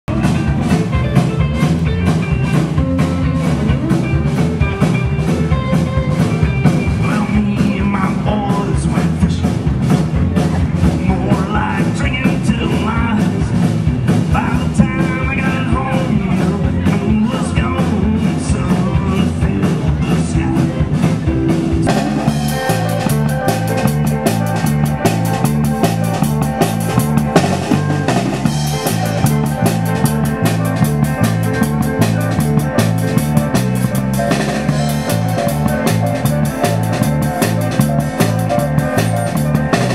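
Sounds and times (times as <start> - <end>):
drum-heavy song: 0.0 - 39.9
rock band playing live: 0.0 - 39.9.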